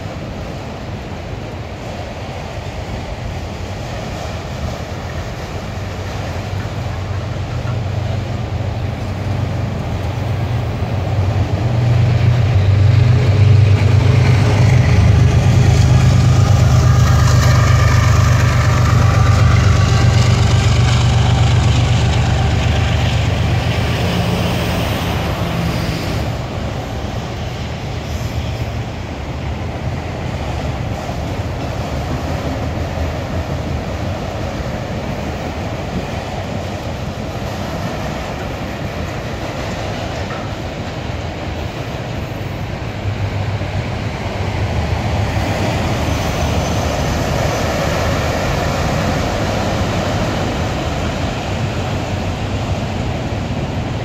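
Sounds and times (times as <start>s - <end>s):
diesel locomotive engine hum: 0.0s - 54.0s
train wheels on rail: 0.0s - 54.0s.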